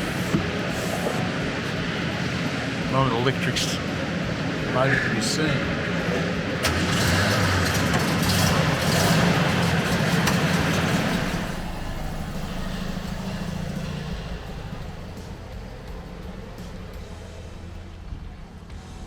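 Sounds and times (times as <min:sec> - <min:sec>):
air-cooled engine running: 0:00.0 - 0:19.0.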